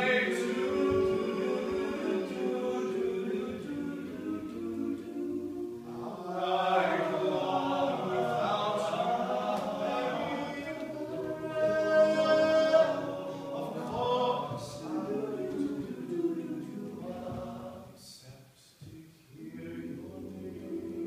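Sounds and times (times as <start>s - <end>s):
male a cappella group singing: 0.0s - 21.0s.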